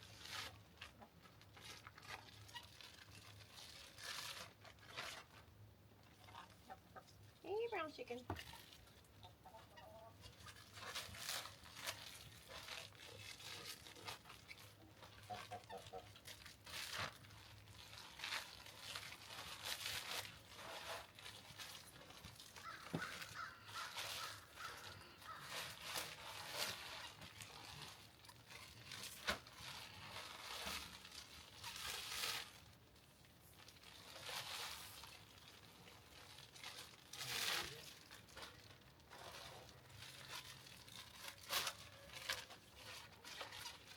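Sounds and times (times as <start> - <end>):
plastic bags crinkling: 0.0 - 6.7, 7.5 - 43.9.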